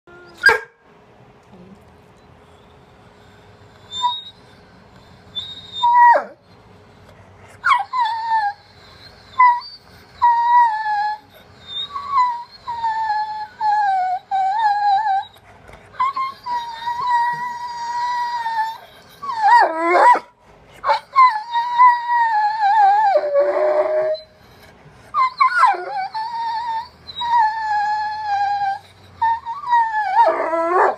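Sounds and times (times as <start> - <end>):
dog howling and whining: 0.1 - 0.6, 3.3 - 30.9.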